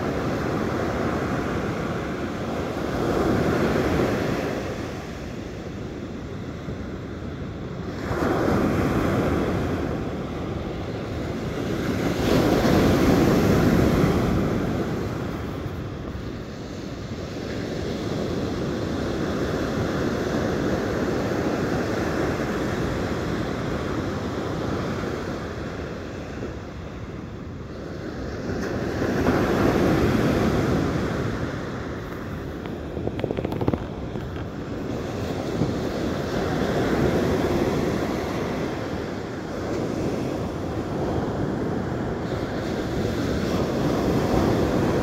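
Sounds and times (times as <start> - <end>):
ocean surf breaking: 0.0 - 45.0
wind on microphone: 0.0 - 45.0.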